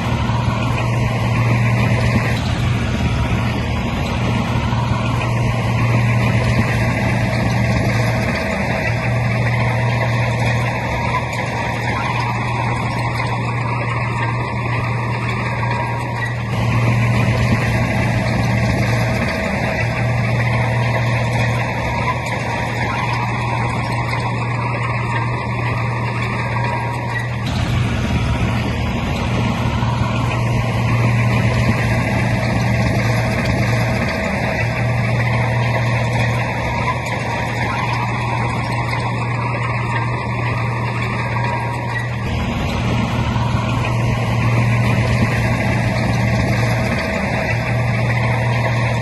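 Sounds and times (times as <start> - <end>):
heavy diesel engine humming: 0.0 - 49.0.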